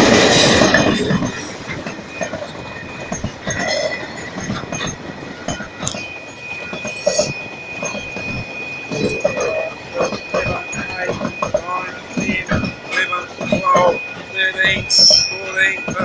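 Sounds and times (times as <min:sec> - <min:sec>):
diesel locomotive rumble: 0:00.0 - 0:16.0
wheels clacking over rail joints: 0:00.0 - 0:16.0.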